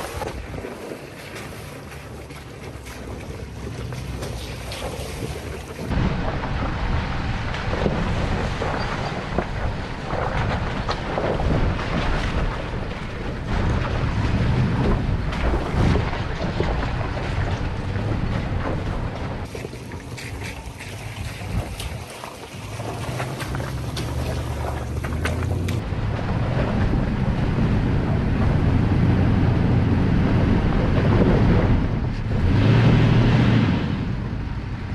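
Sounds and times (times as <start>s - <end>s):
engine and tyre rumble: 0.0s - 34.9s
wind buffeting microphone: 0.0s - 34.9s.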